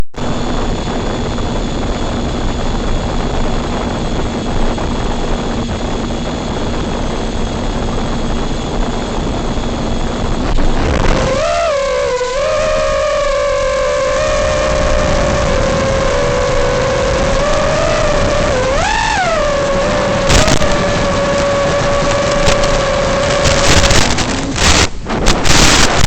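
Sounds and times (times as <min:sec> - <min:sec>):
drone propellers buzzing: 0:00.0 - 0:26.0
wavering whine: 0:00.0 - 0:26.0.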